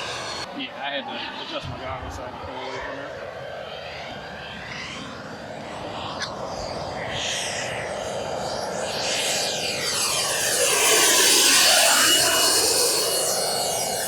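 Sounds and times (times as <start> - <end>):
rc helicopter turbine whine: 0.0 - 14.0.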